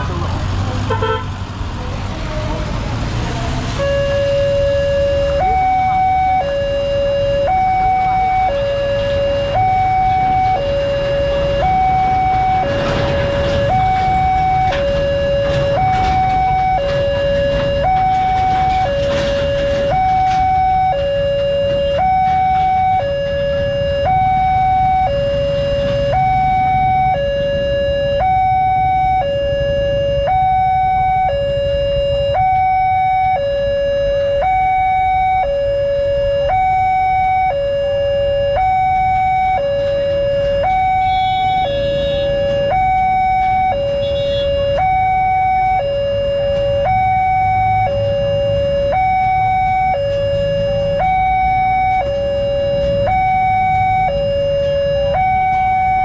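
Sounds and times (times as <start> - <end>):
two-tone crossing alarm: 3.6 - 56.0.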